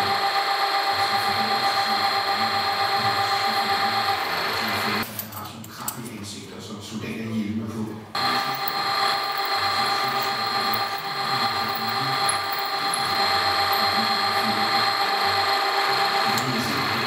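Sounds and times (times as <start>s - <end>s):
milling machine whining: 0.0s - 5.0s, 8.2s - 17.0s.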